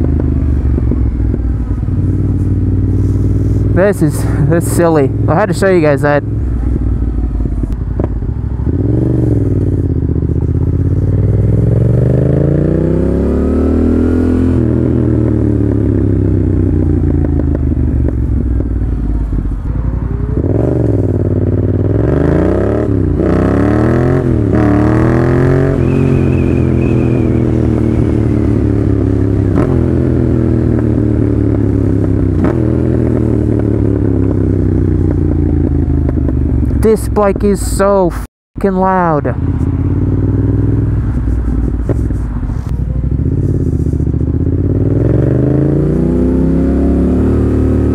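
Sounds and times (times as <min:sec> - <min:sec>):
motorcycle engine revving: 0:00.0 - 0:37.2, 0:39.3 - 0:47.9.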